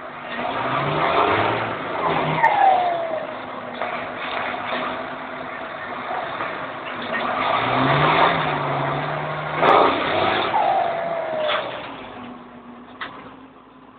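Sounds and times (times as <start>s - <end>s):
tractor diesel engine revving: 0.0s - 13.9s.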